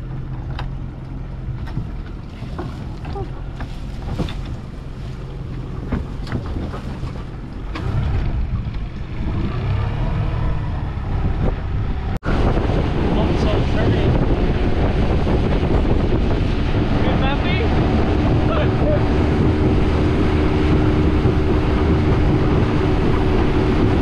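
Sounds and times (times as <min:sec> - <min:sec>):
outboard motor running: 0:00.0 - 0:24.0
water noise: 0:00.0 - 0:24.0
wind noise: 0:01.4 - 0:24.0.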